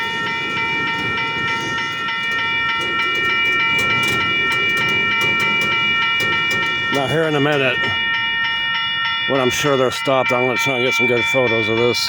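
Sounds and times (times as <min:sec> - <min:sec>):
crossing bells clanging: 0:00.0 - 0:12.0
freight train rumble: 0:00.0 - 0:12.0.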